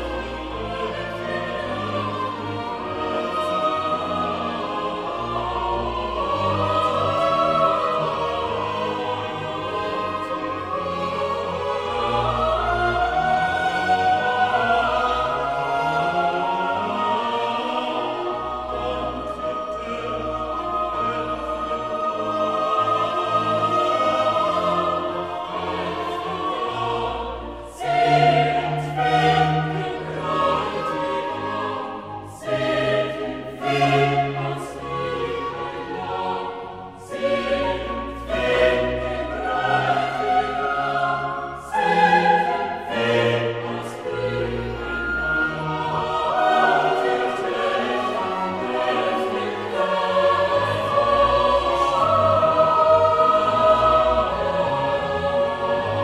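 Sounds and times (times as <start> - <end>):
choir singing sustained notes: 0.0 - 56.0
orchestral strings and bass: 0.0 - 56.0.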